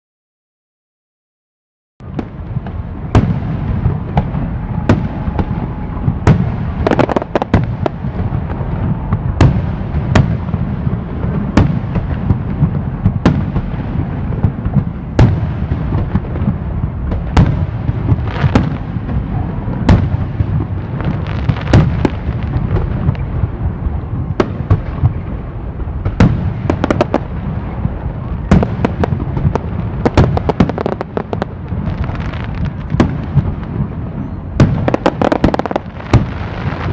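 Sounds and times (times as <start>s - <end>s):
rumble and crackle of fireworks: 2.0s - 36.9s.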